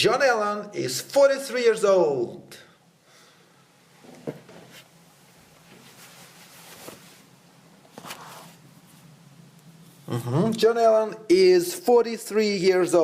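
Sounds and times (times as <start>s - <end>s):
faint hiss: 0.7s - 13.0s.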